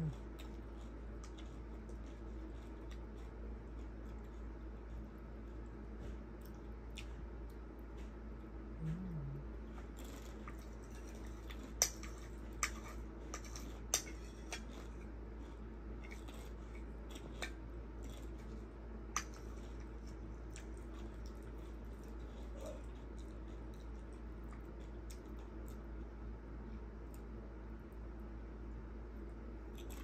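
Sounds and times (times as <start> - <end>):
faint chewing: 0.0 - 26.2, 26.8 - 27.4, 29.7 - 30.0.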